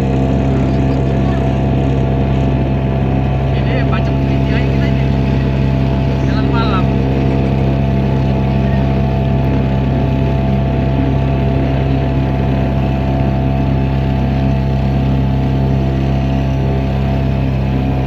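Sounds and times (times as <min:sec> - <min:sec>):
motorboat engine running: 0:00.0 - 0:18.0
water and hull noise: 0:00.0 - 0:18.0.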